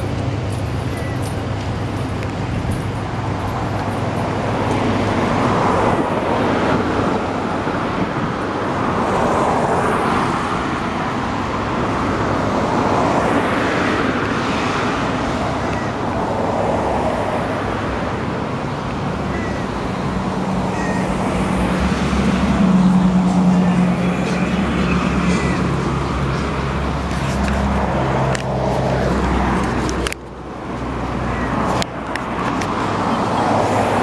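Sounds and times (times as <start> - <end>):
cars passing by: 0.0 - 34.0.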